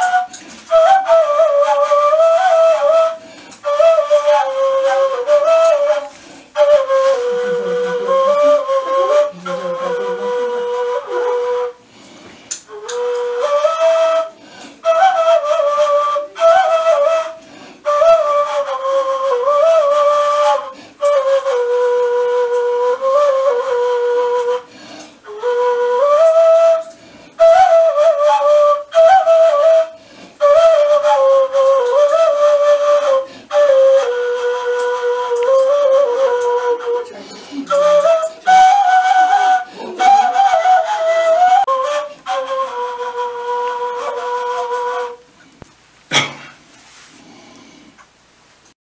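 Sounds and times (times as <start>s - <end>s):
end-blown flute melody: 0.0s - 11.8s, 12.7s - 45.3s.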